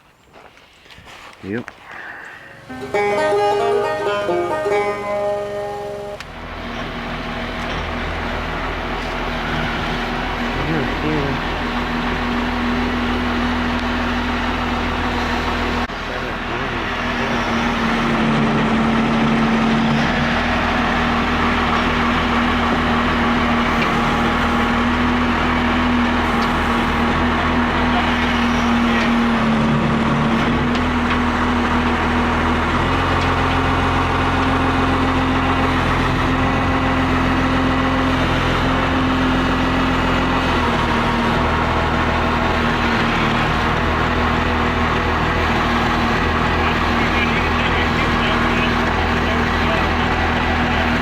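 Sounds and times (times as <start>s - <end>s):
diesel loader engine running: 2.0s - 51.0s.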